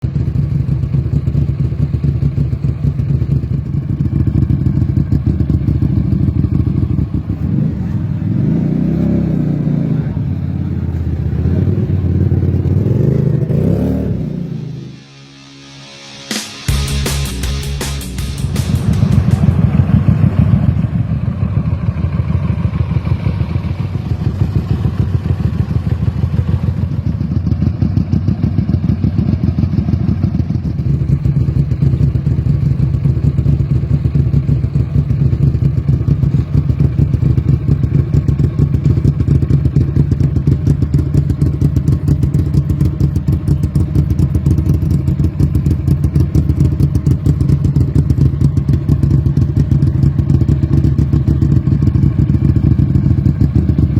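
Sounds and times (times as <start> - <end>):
motorcycle engine idling: 0.0 - 14.8, 16.7 - 53.9.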